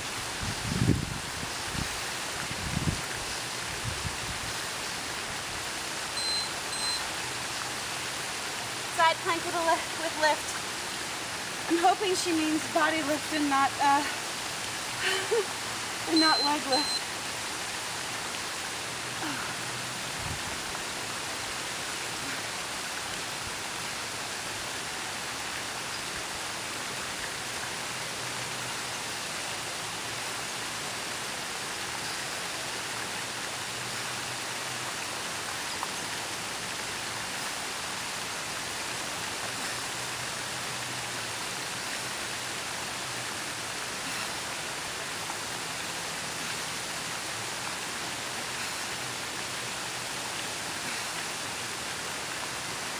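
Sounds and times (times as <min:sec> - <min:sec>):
waterfall rushing into pond: 0:00.0 - 0:52.9.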